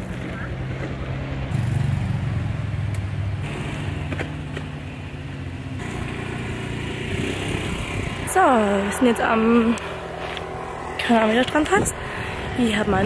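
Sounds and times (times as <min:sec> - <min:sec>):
scooter engine running: 0:00.0 - 0:13.0.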